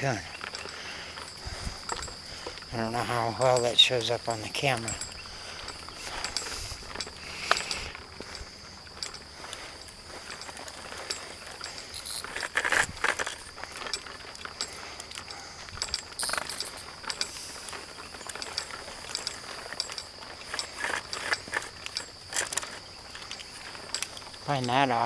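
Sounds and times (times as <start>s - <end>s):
crunching footsteps on dry trail: 0.0s - 25.0s
high insect buzz: 0.0s - 25.0s.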